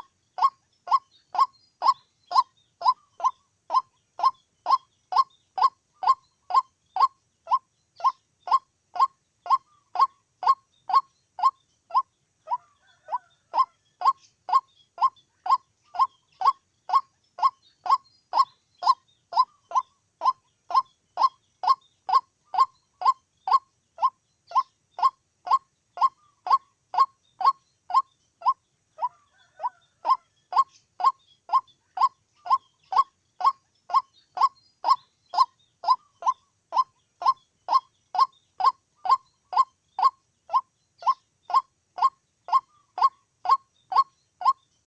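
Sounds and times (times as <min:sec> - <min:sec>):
waterhen calling: 0:00.0 - 0:44.7.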